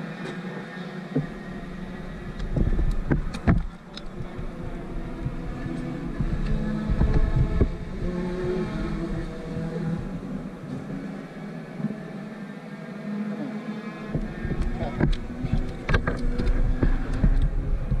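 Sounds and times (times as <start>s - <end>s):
kart engine running: 0.0s - 18.0s.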